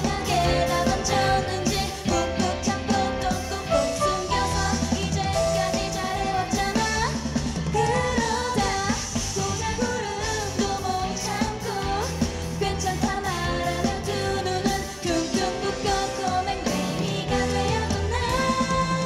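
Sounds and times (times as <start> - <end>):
electric keyboard: 0.0 - 19.0
steady drum beat: 0.0 - 19.0
woman singing: 0.0 - 19.0.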